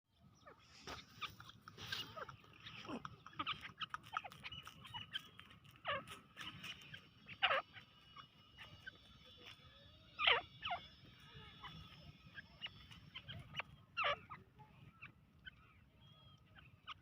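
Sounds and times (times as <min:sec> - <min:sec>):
francolin calling: 0:00.4 - 0:17.0.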